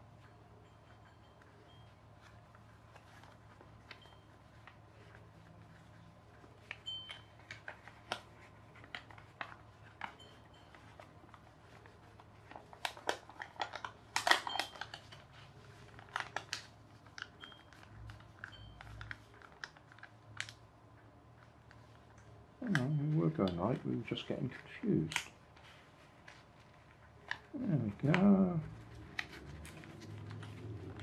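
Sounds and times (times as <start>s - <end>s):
paper being folded and creased: 2.1s - 31.0s.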